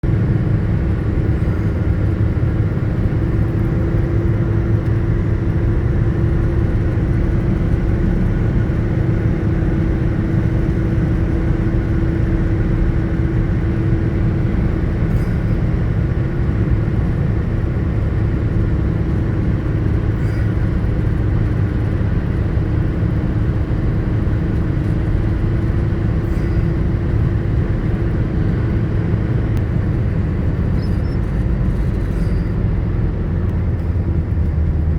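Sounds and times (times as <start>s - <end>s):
vehicle engine rumble: 0.0s - 34.9s.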